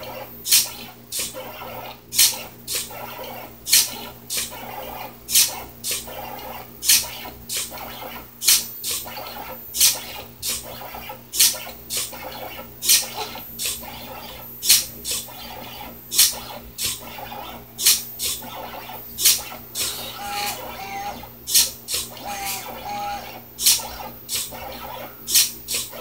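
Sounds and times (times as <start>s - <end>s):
pen plotter scratching: 0.0s - 26.0s
steady low hum: 0.0s - 26.0s.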